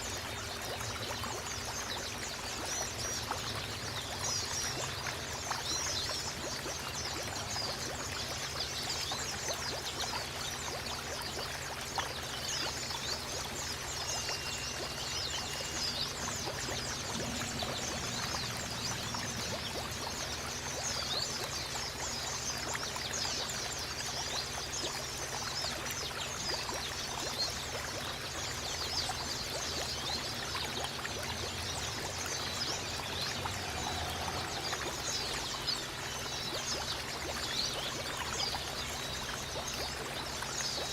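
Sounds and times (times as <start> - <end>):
small birds twittering: 0.0 - 40.9
stream trickling: 0.0 - 40.9.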